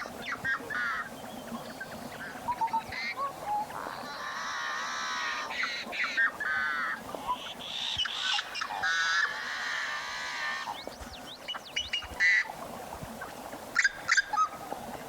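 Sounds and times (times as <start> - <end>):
flock of birds calling: 0.0 - 12.6, 13.2 - 14.7.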